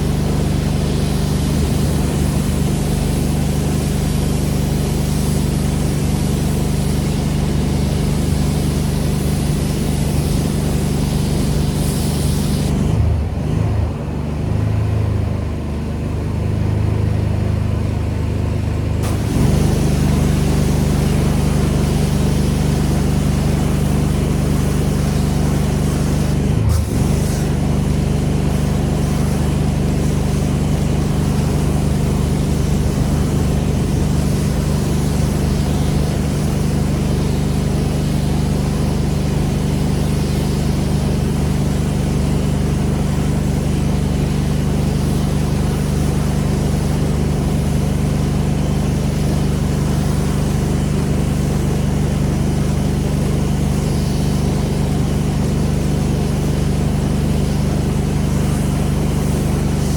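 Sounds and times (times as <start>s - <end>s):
spraying water hiss: 0.0s - 13.6s, 19.0s - 59.9s
pressure washer engine running: 0.0s - 59.9s.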